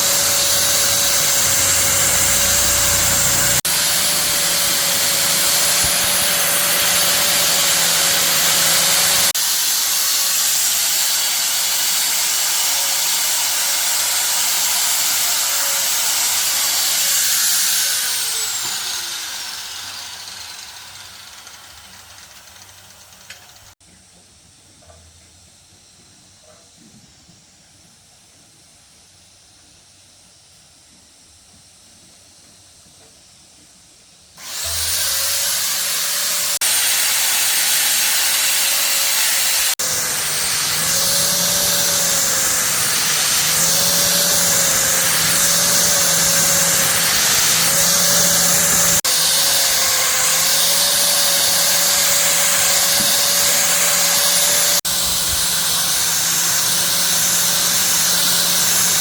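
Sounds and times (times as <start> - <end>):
workshop machine running: 0.0 - 23.8, 34.4 - 59.0.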